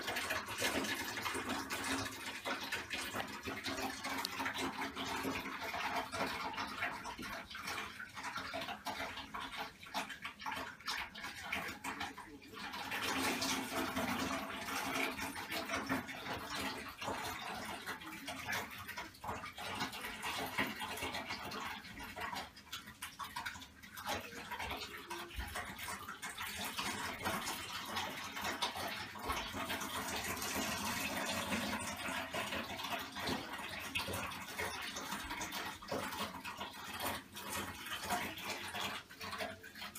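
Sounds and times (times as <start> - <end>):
water running into bathtub: 0.0 - 39.9.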